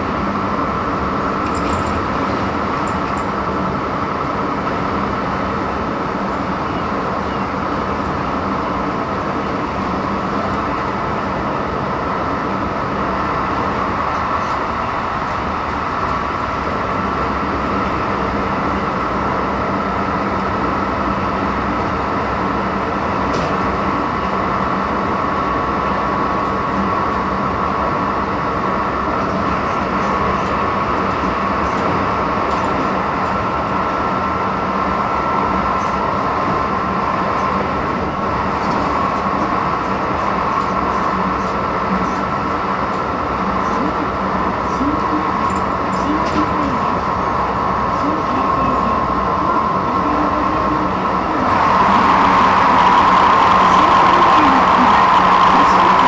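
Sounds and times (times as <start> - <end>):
train rolling noise from inside: 0.0 - 56.0.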